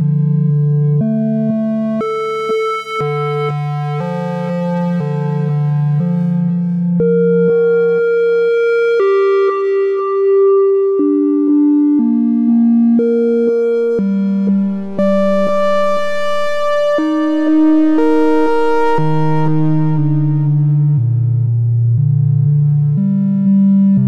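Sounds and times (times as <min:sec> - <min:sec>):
synthesizer playing notes and chords: 0:00.0 - 0:24.0.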